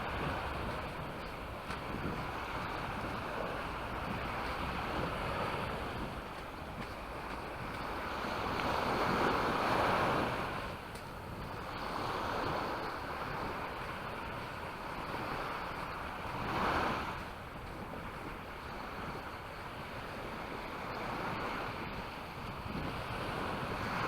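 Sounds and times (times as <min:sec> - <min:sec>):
small waves breaking on shore: 0:00.0 - 0:24.0
wind rumbling on microphone: 0:00.0 - 0:24.0.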